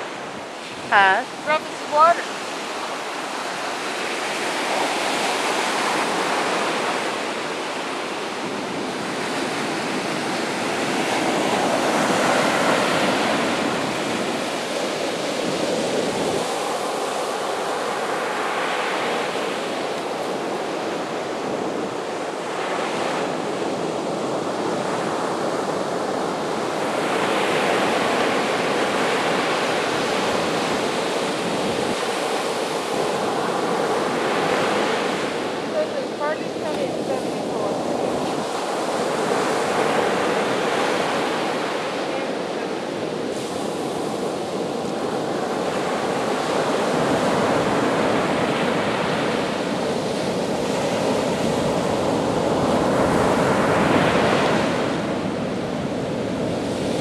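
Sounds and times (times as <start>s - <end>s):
surf breaking on a beach: 0.0s - 57.0s.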